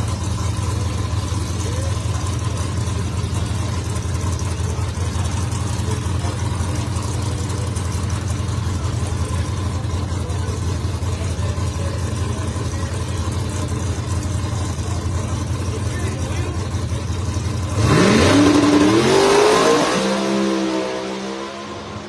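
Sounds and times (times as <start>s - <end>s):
race car engine idling: 0.0s - 22.0s.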